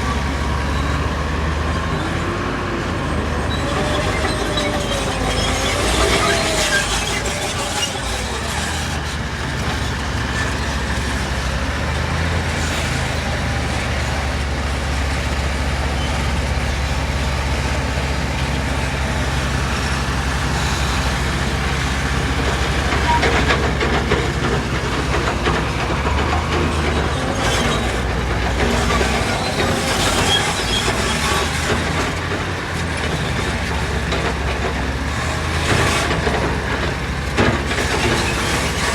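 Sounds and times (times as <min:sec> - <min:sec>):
diesel engine running under load: 0:00.0 - 0:38.9
steel crawler tracks clanking: 0:00.0 - 0:38.9.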